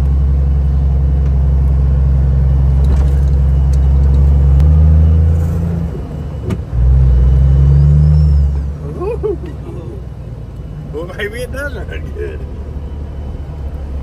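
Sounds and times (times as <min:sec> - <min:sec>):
truck diesel engine accelerating: 0:00.0 - 0:14.0.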